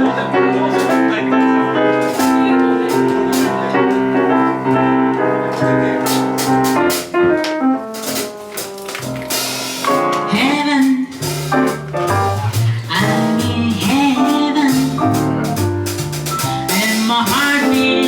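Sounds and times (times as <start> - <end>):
jazz combo playing: 0.0 - 18.0.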